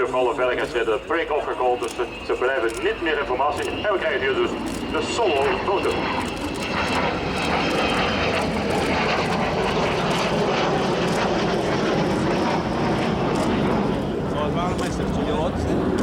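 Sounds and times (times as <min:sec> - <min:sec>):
jet aircraft roaring: 0:00.0 - 0:16.0.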